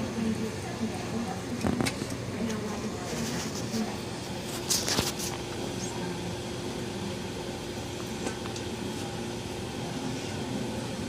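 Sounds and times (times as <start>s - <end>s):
motor and fan hum: 0.0s - 11.0s.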